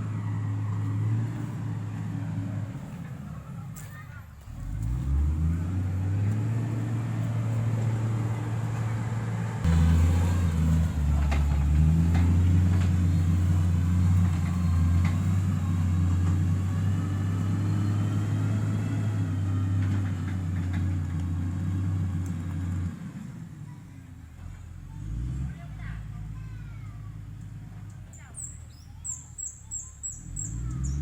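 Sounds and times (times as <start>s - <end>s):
heavy machine engine droning: 0.0s - 28.2s.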